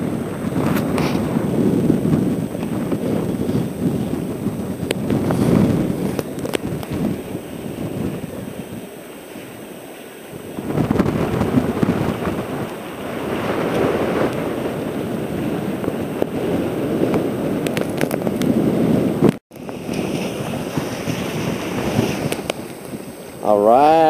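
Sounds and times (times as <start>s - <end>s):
choppy water rushing past boat: 0.0s - 24.0s
wind buffeting microphone: 0.0s - 24.0s.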